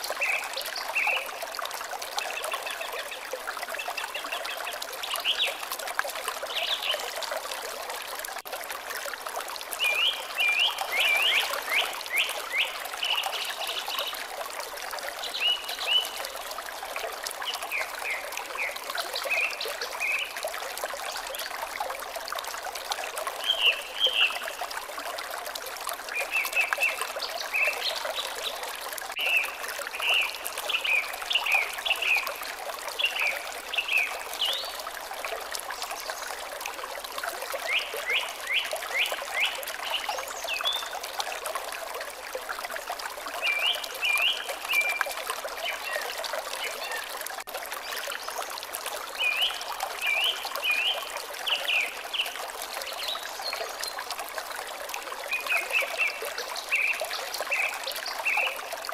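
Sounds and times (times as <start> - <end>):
water trickling: 0.0 - 58.9.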